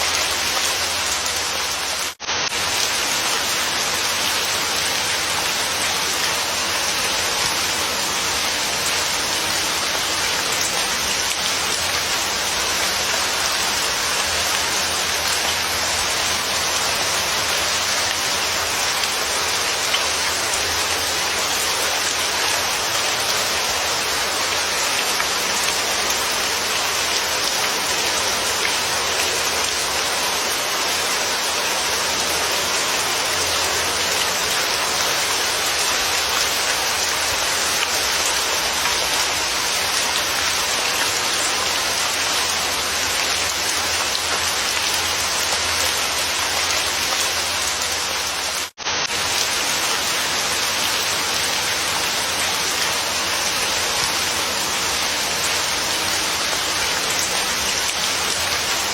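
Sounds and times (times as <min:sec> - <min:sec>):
rain pattering: 0:00.0 - 0:58.9.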